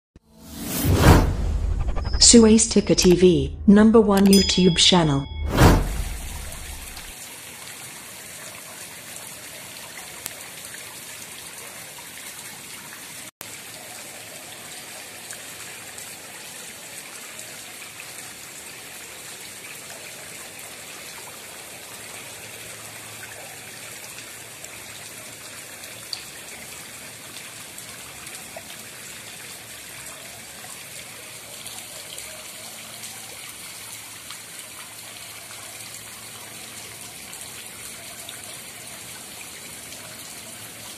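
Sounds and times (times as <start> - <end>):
pond water trickling and splashing: 6.6 - 40.9.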